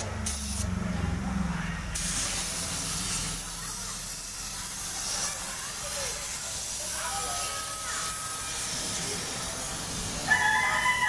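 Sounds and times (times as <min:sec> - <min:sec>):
spray gun hissing: 0:00.0 - 0:00.8, 0:01.9 - 0:11.0.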